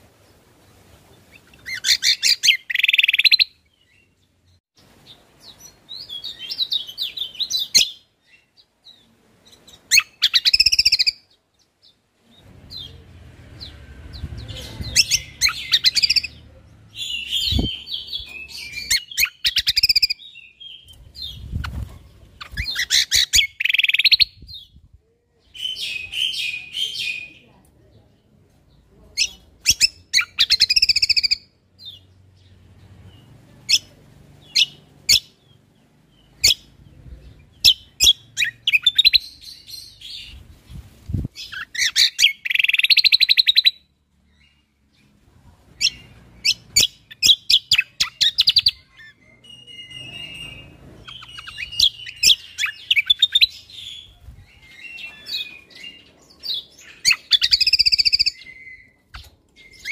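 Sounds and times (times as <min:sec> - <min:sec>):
songbird singing sharp notes and trills: 0:01.1 - 0:59.9.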